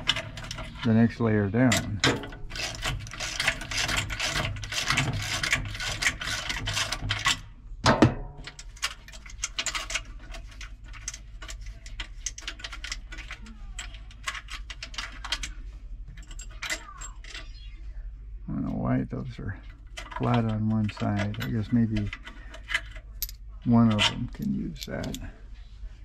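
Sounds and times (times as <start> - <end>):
metal nuts rattling: 0.0 - 7.4, 8.4 - 17.5, 19.6 - 25.3.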